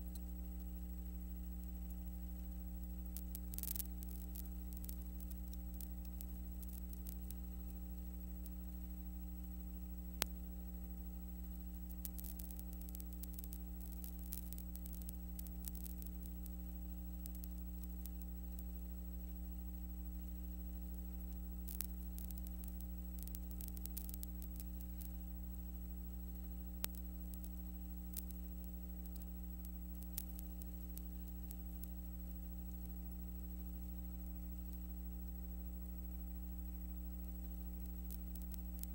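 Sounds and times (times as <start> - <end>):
electrical mains hum: 0.0 - 38.9
faint crackling clicks: 0.0 - 38.9.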